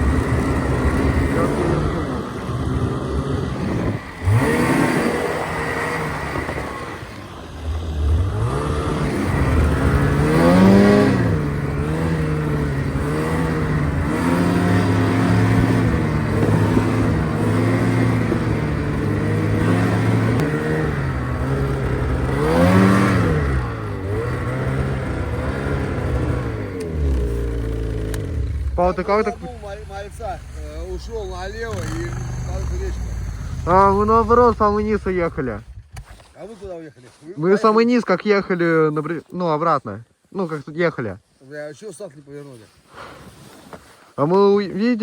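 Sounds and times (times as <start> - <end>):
snowmobile engine revving: 0.0 - 36.6.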